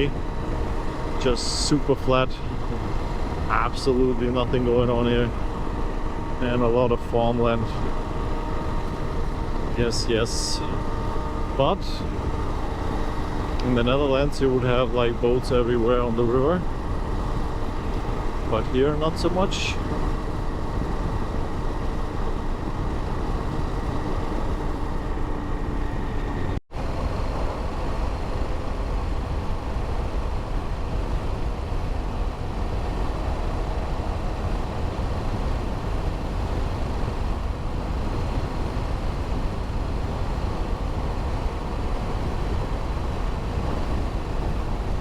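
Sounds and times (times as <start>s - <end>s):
motorcycle engine hum: 0.0s - 45.0s
wind and road noise: 0.0s - 45.0s.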